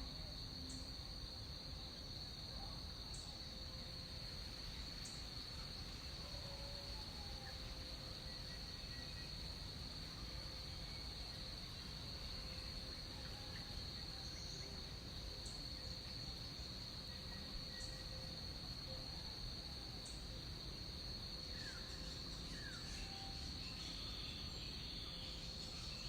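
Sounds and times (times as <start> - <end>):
insects buzzing drone: 0.0 - 26.0.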